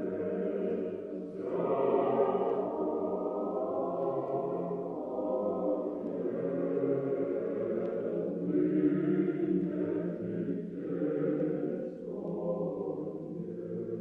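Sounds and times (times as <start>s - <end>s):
choir chanting long notes: 0.0s - 14.0s.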